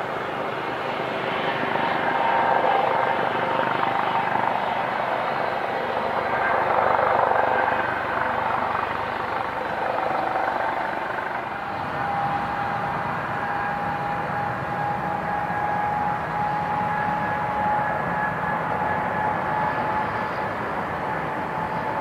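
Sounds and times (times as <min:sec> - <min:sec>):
high turbine whine: 0:00.0 - 0:22.0
jet engines rushing: 0:00.0 - 0:22.0.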